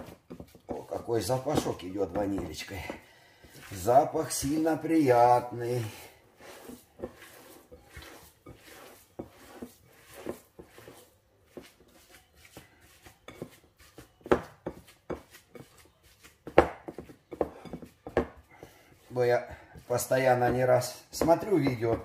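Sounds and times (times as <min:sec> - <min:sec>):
hands squelching cheese mixture: 0:00.0 - 0:22.0.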